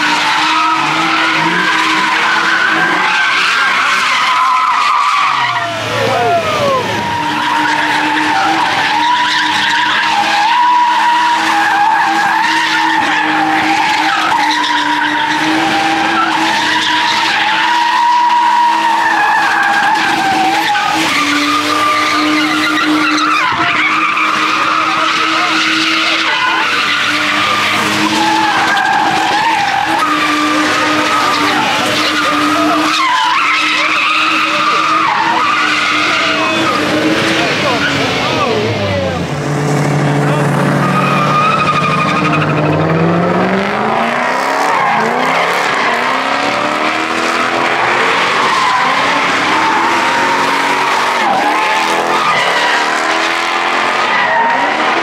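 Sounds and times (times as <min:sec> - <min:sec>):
car engine revving high: 0:00.0 - 0:55.0
tyres screeching: 0:00.0 - 0:55.0.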